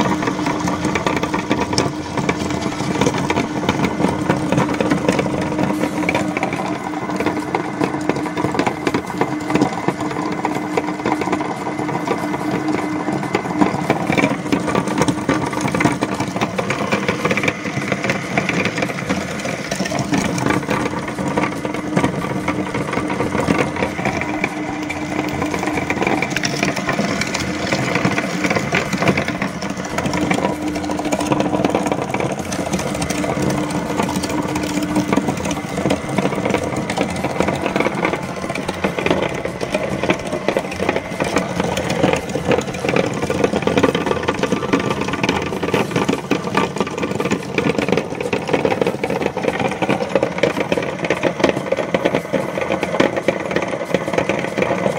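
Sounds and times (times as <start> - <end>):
meat grinder shredding balloons: 0.0 - 54.9.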